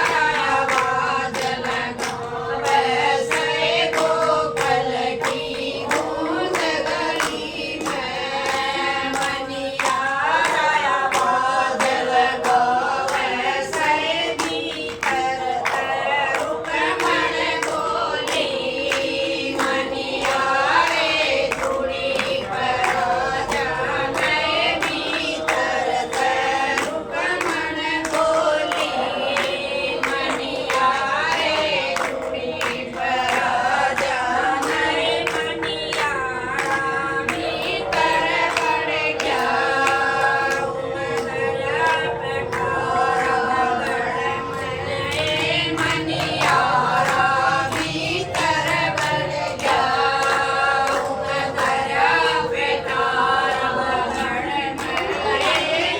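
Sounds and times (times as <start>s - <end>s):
held drone note: 0.0s - 55.9s
rhythmic hand clapping: 0.0s - 55.9s
women singing together: 0.0s - 55.9s.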